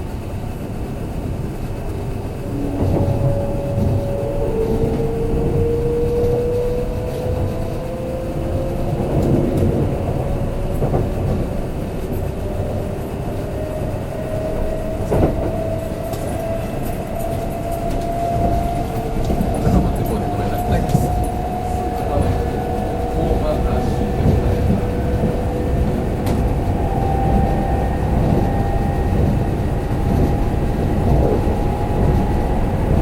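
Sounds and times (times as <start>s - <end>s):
train wheels rumbling on track: 0.0s - 33.0s
wheels clacking over rails: 0.6s - 33.0s
train motor whine: 0.9s - 33.0s.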